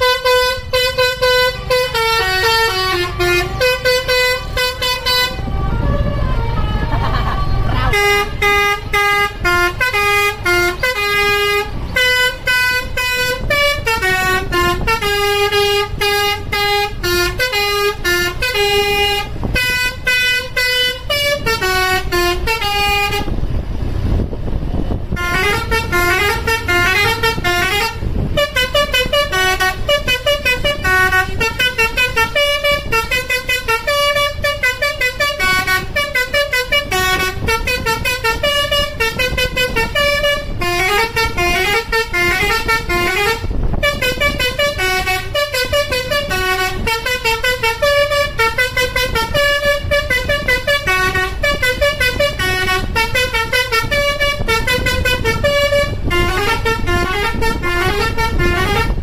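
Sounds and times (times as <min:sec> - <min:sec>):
musical horn playing a tune: 0:00.0 - 0:23.4, 0:25.1 - 0:59.0
coach engine rumbling: 0:00.0 - 0:59.0.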